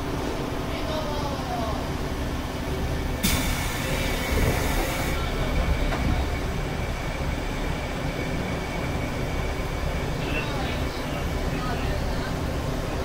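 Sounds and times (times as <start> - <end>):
train rumble and rail noise: 0.0 - 13.0.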